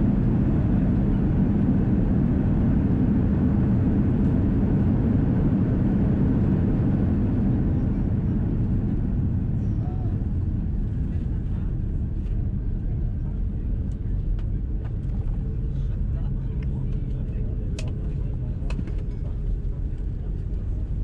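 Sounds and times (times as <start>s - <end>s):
jet engines and wheels rumbling: 0.0s - 21.0s.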